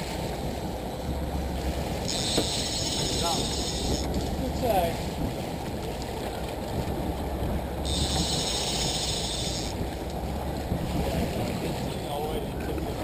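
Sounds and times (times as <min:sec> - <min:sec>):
boat running: 0:00.0 - 0:13.0
wind rumble on microphone: 0:00.0 - 0:13.0.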